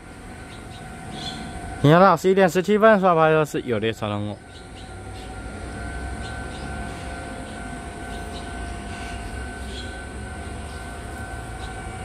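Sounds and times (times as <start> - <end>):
low steady rumble: 0.0 - 12.0
two-pitch warning signal tone: 0.0 - 12.0.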